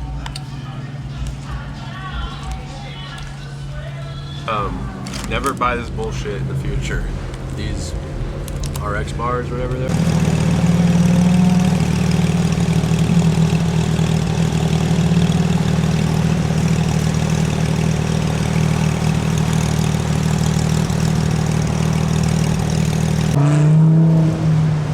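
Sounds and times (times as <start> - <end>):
engine idling: 0.0 - 23.4.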